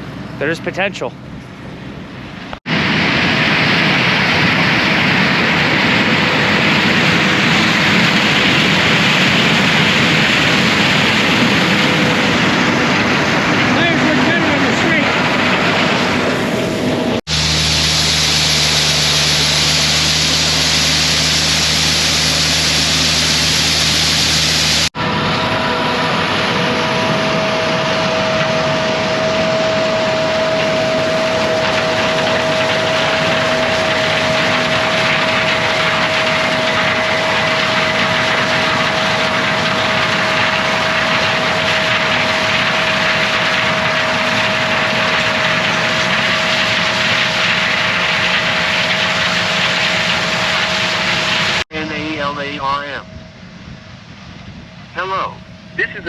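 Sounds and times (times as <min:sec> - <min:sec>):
combine harvester running: 0:00.0 - 0:54.2
machine drone with whine: 0:00.0 - 0:56.0.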